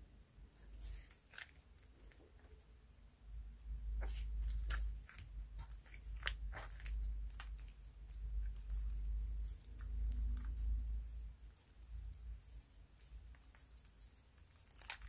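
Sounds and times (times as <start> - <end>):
slime stretched and kneaded: 0.5 - 2.7, 3.8 - 15.0.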